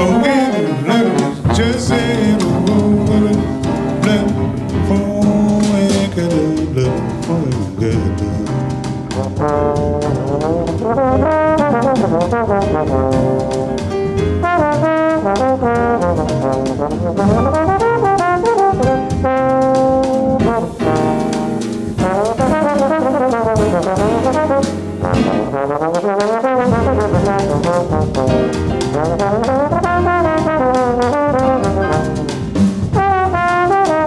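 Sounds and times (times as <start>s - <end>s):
bass trombone jazz solo: 0.0s - 34.0s
double bass: 0.0s - 34.0s
drums with cymbals: 0.0s - 34.0s.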